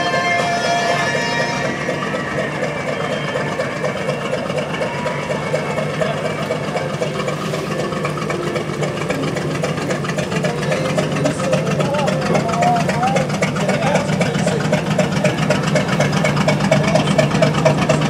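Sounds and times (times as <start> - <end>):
fire engine motor running: 0.0 - 18.0
second fire truck running: 0.0 - 18.0.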